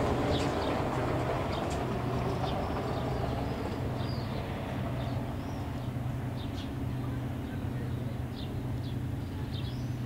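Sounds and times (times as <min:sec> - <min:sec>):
low ship engine hum: 0:00.0 - 0:10.0.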